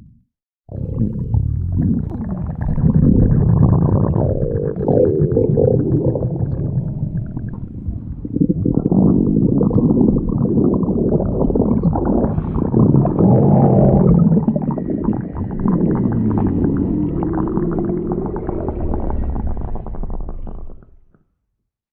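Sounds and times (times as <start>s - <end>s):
stomach growling: 0.7s - 21.2s.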